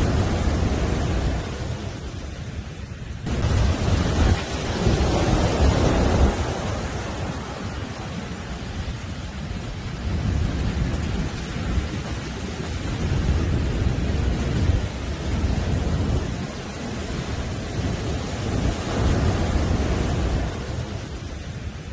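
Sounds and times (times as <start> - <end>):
heavy surf breaking on beach: 0.0 - 21.9.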